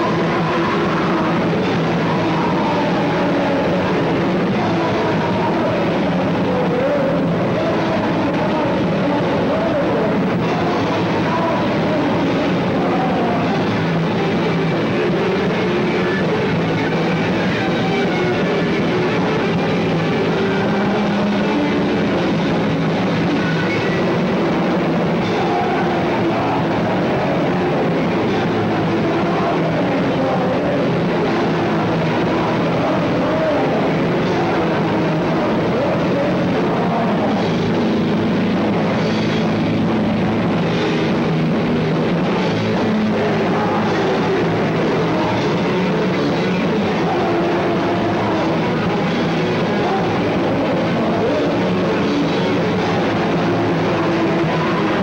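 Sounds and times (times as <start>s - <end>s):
loud punk band playing: 0.0s - 55.0s.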